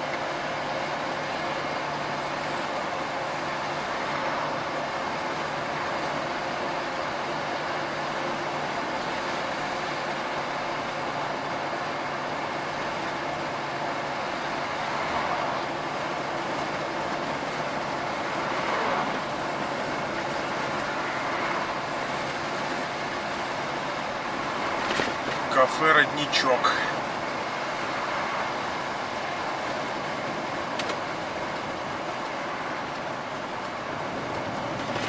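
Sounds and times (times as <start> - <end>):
road noise: 0.0 - 35.0
truck engine drone: 0.0 - 35.0.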